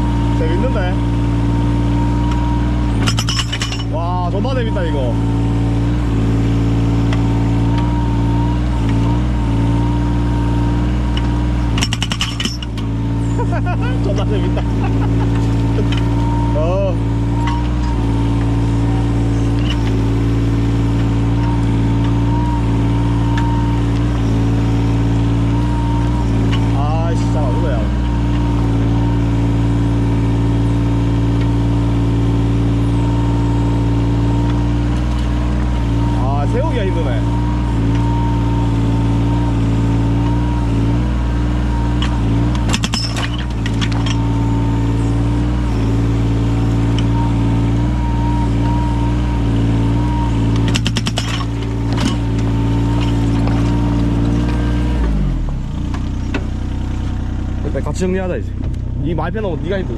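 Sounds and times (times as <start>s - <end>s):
diesel engine running: 0.0s - 59.9s
high whine: 7.4s - 56.4s.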